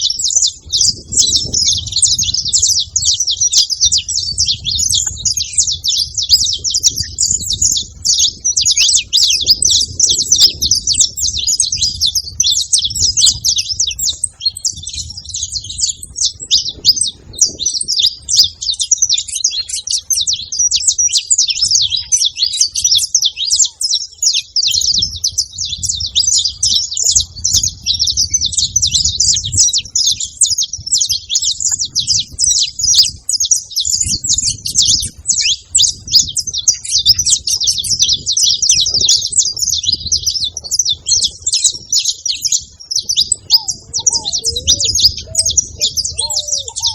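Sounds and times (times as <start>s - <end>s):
finches singing and chirping: 0.0s - 46.9s.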